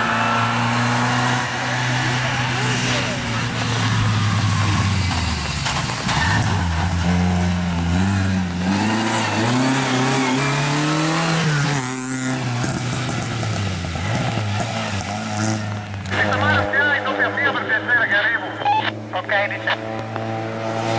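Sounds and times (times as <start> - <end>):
rally car engine revving: 0.0 - 20.9.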